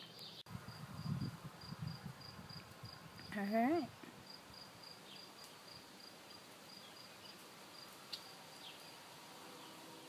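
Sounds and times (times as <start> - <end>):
insect chirping: 0.0 - 3.5, 4.1 - 10.0.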